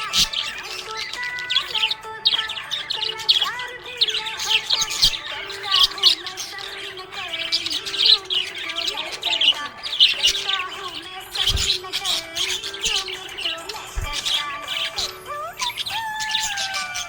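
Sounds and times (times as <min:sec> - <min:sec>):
budgerigars chirping and warbling: 0:00.0 - 0:17.0.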